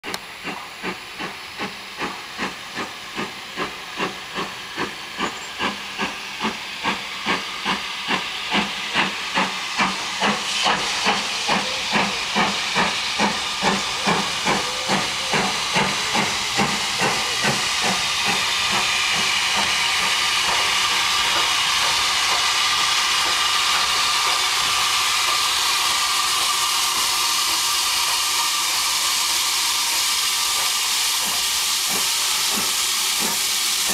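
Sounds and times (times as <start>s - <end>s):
steam hissing: 0.0s - 33.9s
steam locomotive exhaust beats: 0.0s - 33.9s.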